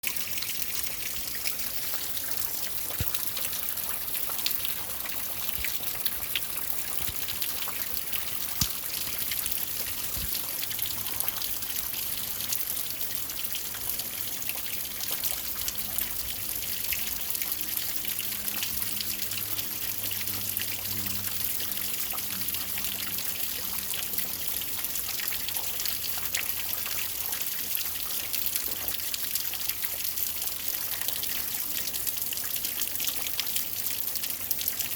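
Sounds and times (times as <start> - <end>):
water trickling and dripping: 0.0 - 34.9.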